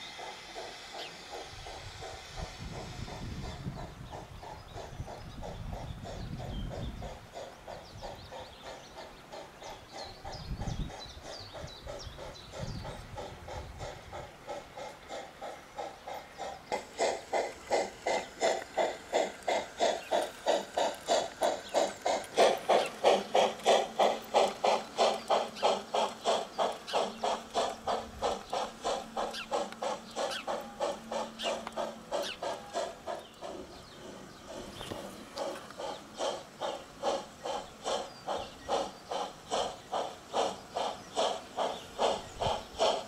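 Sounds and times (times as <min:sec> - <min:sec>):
steam locomotive chuffing: 0:00.0 - 0:43.0.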